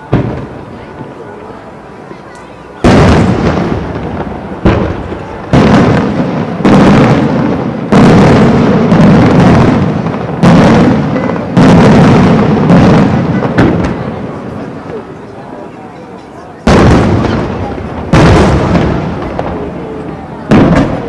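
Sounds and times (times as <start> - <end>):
firework shells booming: 0.0 - 1.2, 2.8 - 15.2, 16.6 - 21.0.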